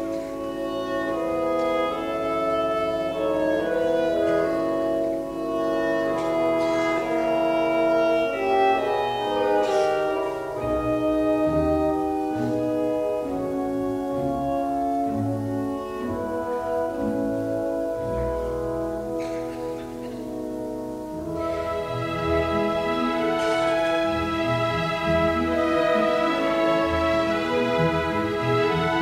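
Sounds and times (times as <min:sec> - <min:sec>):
classical music with held notes: 0:00.0 - 0:29.0.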